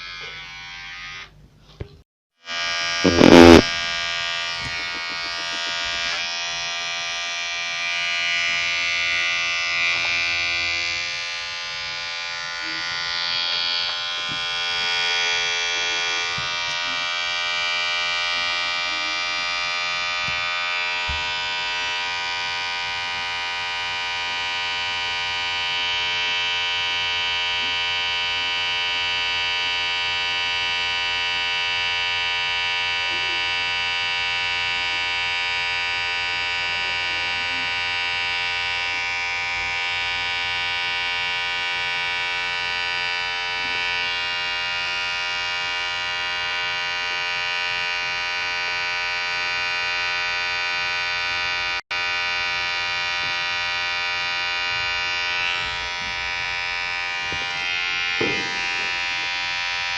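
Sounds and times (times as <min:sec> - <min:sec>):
electric hair clipper buzzing: 0:00.0 - 0:59.9.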